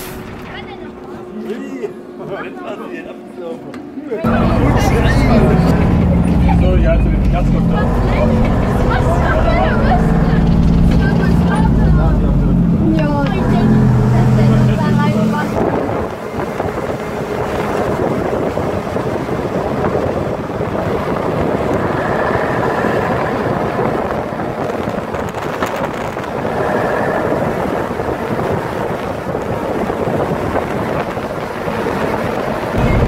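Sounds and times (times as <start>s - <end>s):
truck diesel engine running: 4.3s - 33.0s
tyres on wet road: 4.3s - 33.0s
wind noise on microphone: 4.3s - 33.0s.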